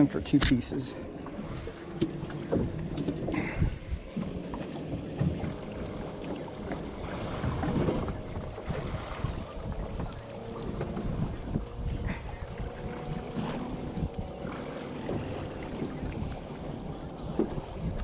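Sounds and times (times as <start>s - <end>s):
water noise: 0.0s - 18.0s
wind: 0.0s - 18.0s.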